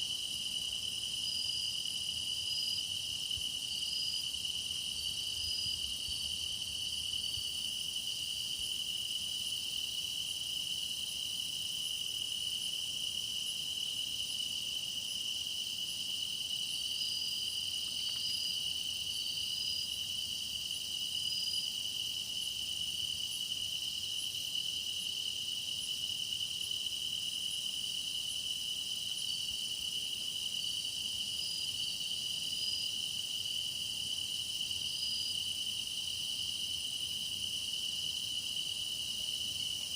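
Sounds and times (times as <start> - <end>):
crickets trilling: 0.0 - 39.9
faint insect chirps: 0.0 - 39.9.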